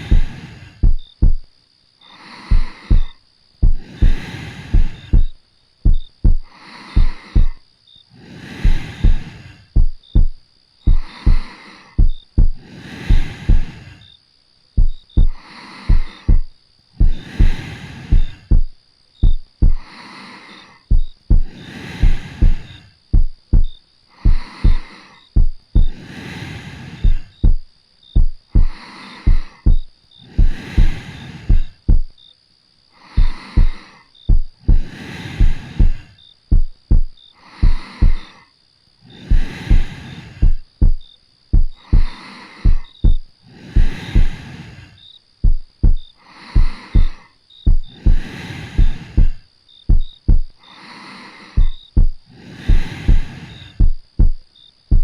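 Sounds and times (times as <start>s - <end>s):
heartbeat thumps: 0.0s - 1.5s, 2.5s - 7.6s, 8.6s - 13.8s, 14.8s - 19.9s, 20.9s - 26.0s, 27.0s - 32.2s, 33.2s - 38.3s, 39.3s - 44.4s, 45.4s - 50.6s, 51.6s - 55.0s
soft slow breathing: 0.0s - 32.2s, 32.8s - 55.0s.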